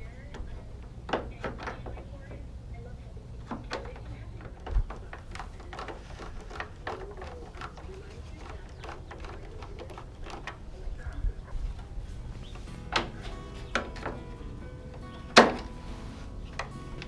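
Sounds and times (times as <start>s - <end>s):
plastic and metal parts clicking: 0.0s - 17.0s
steady low hum: 0.0s - 17.0s.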